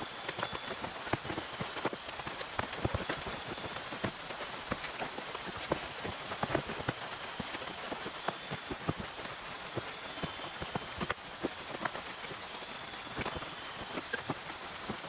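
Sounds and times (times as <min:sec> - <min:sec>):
rain pattering on a tent: 0:00.0 - 0:15.0.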